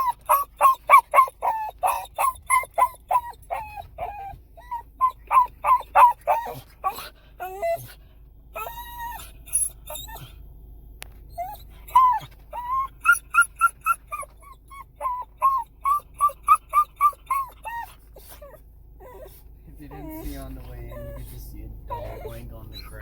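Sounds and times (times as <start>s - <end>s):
dog whining and crying: 0.0s - 10.4s, 11.2s - 23.0s.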